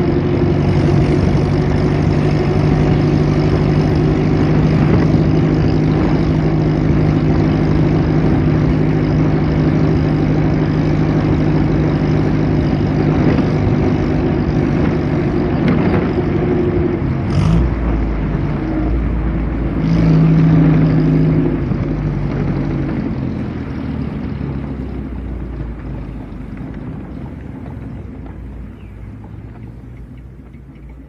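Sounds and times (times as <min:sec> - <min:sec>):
vintage car engine running: 0:00.0 - 0:31.0.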